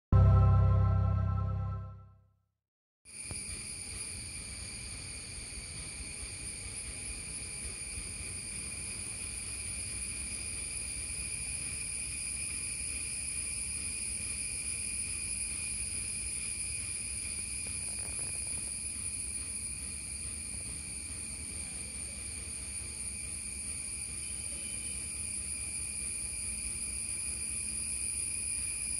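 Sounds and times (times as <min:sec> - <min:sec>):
insects droning: 0:03.1 - 0:28.9.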